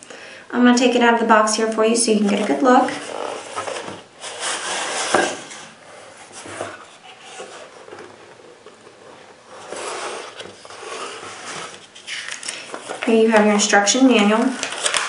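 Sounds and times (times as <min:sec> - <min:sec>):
plastic wrapping rustling: 0:02.1 - 0:15.0.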